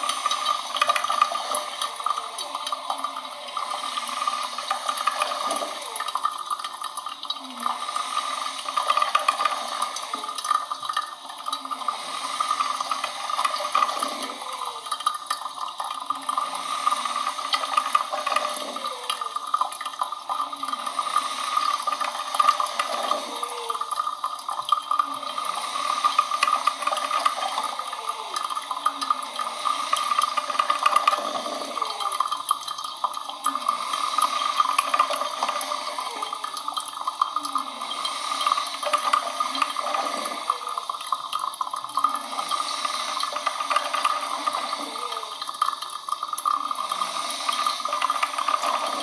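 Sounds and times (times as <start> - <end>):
coffee machine watery hiss: 0.0 - 49.0.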